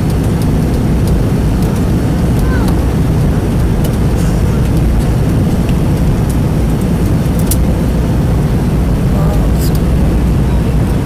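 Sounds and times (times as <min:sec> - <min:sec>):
airliner engine and airflow noise: 0:00.0 - 0:11.0.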